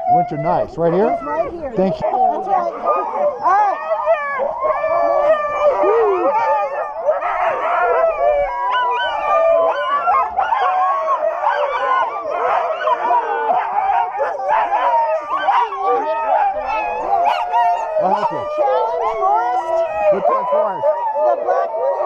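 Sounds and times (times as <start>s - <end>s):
dogs howling yipping and barking: 0.0s - 22.0s.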